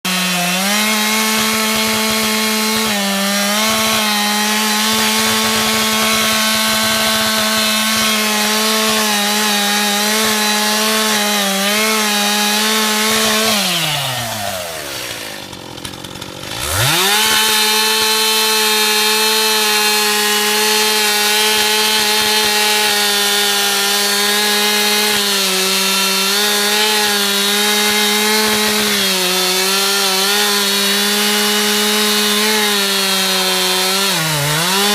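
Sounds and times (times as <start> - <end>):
chainsaw running at high revs: 0.0 - 34.9.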